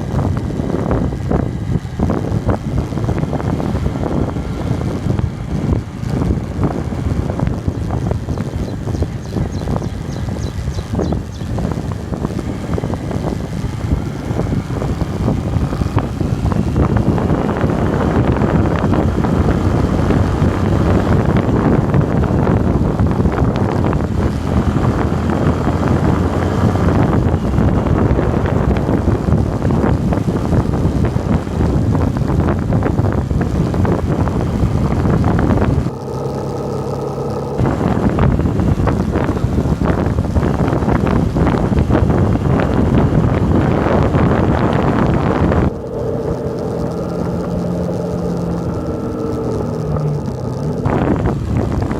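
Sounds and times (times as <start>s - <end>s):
bike rattles and clicks: 0.0s - 51.9s
steady hum with overtones: 0.0s - 51.9s
wind buffeting microphone: 0.0s - 51.9s.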